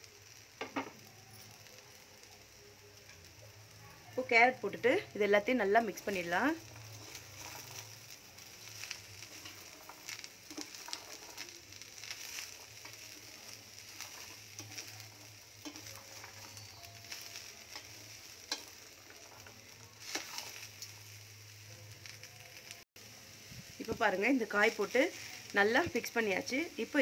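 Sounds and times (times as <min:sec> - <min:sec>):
oil sizzling: 0:00.0 - 0:27.0.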